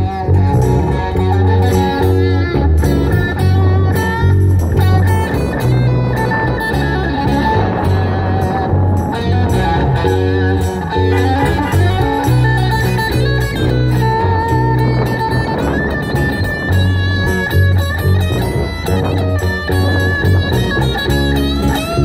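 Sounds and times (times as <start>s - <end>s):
acoustic guitar strumming: 0.0s - 22.0s
guitar lead line: 0.0s - 22.0s
low bass notes: 0.0s - 22.0s.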